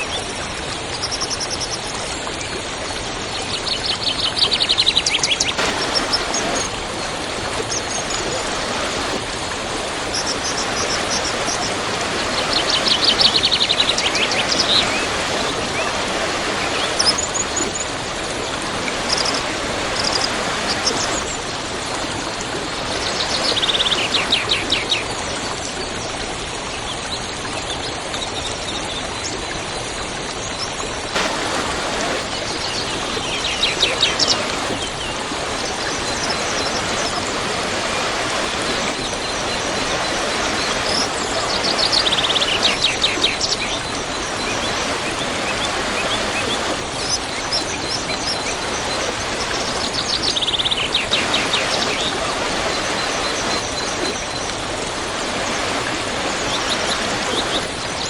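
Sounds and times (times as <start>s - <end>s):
waterfall rushing: 0.0s - 25.9s, 31.0s - 58.0s.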